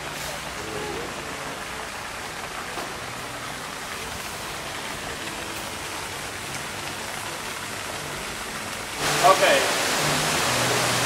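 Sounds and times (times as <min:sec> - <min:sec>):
waterfall pouring into pond: 0:00.0 - 0:11.0.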